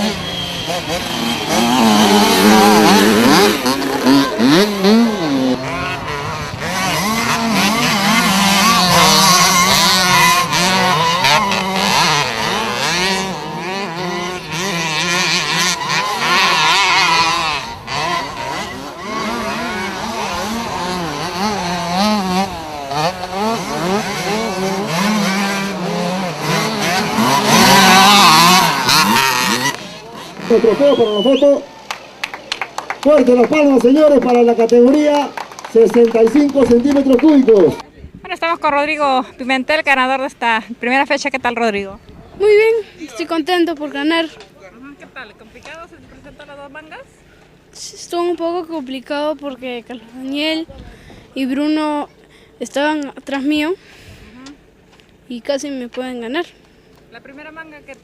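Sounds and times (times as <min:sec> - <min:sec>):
two-stroke motorcycles revving: 0:00.0 - 0:58.0.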